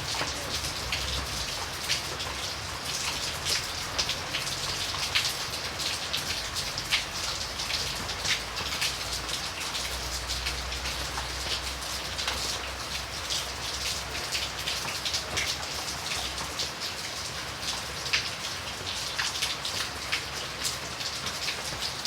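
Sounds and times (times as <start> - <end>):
raindrops splatting on surface: 0.0 - 22.0
steady rain falling: 0.0 - 22.0.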